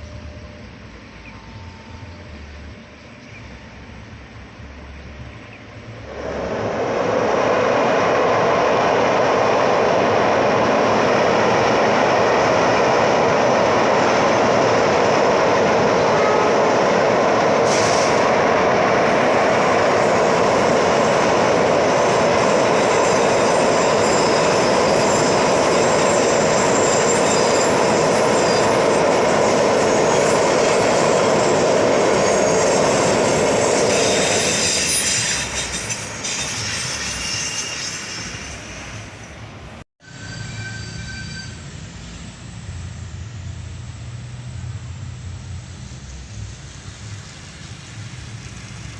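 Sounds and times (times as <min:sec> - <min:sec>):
train wheels on rails: 0:00.0 - 0:48.9.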